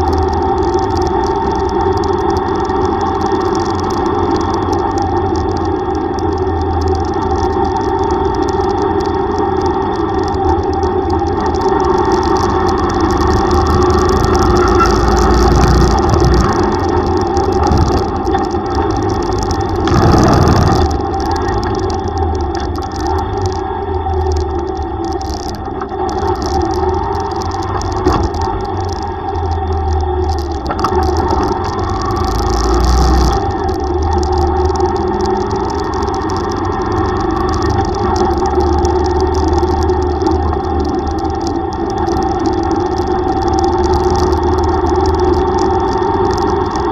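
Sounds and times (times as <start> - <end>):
crackling hiss: 0.0 - 46.9
road and wind noise: 0.0 - 46.9
tricycle engine rumbling: 0.0 - 46.9.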